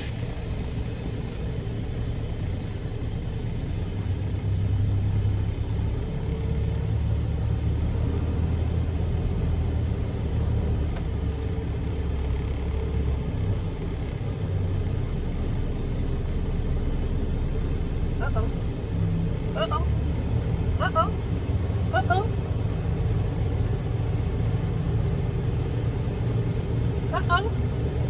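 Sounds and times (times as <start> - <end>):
truck diesel engine rumble: 0.0 - 28.0.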